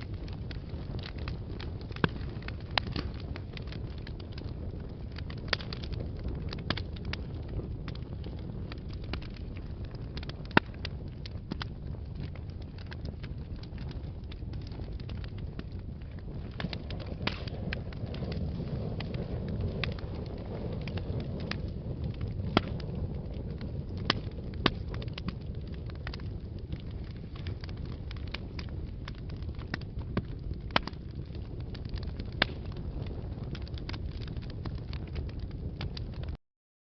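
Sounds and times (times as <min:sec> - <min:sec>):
fire crackling and popping: 0:00.0 - 0:36.4
low rumble of flames: 0:00.0 - 0:36.4.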